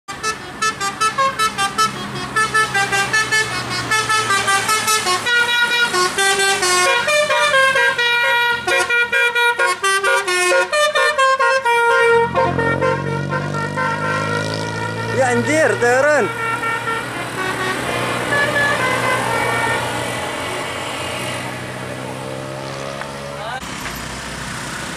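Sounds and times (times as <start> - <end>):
musical vehicle horn melody: 0.1 - 20.6
passing car engine hum: 0.5 - 24.9.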